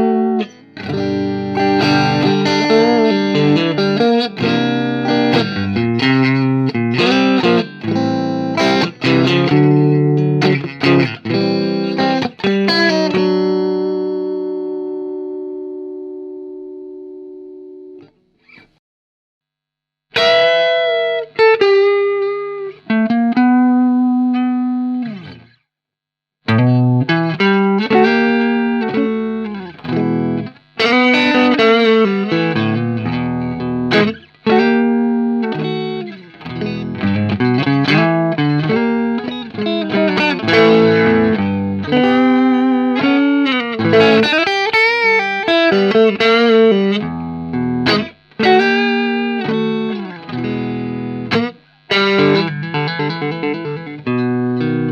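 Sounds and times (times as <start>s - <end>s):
guitar playing: 0.0s - 18.7s, 20.2s - 25.6s, 26.5s - 54.9s.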